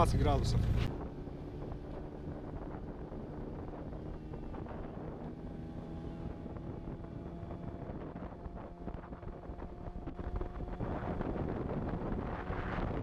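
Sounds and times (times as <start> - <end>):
outboard motor running: 0.0 - 13.0
wind buffeting microphone: 0.0 - 13.0.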